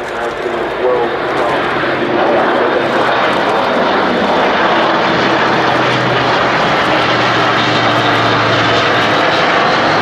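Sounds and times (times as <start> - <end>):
turboprop aircraft flying overhead: 0.0 - 10.0.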